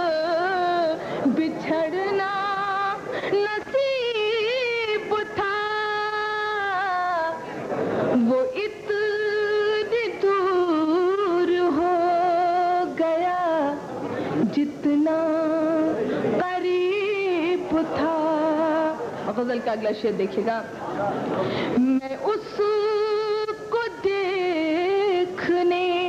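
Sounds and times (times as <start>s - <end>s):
woman singing: 0.0s - 7.5s, 8.2s - 20.6s, 21.8s - 26.0s.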